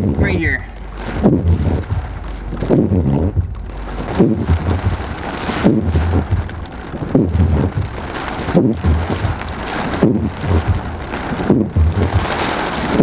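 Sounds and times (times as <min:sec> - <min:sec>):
heavy rain on a car: 0:00.0 - 0:13.0
windshield wipers sweeping: 0:00.0 - 0:13.0.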